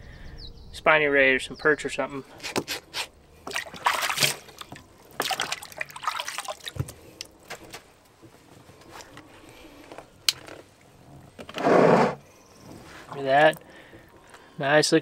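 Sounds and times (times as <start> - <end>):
water splashing and trickling: 2.2 - 8.3, 8.9 - 14.8.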